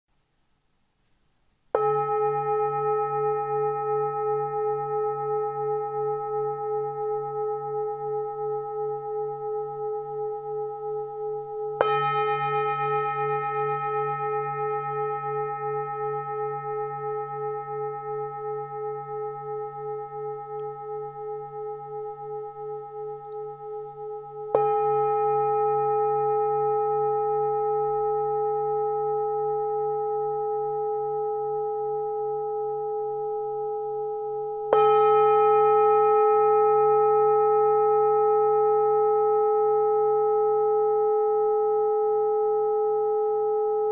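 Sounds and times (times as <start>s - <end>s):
singing bowl struck and ringing: 1.7s - 43.9s.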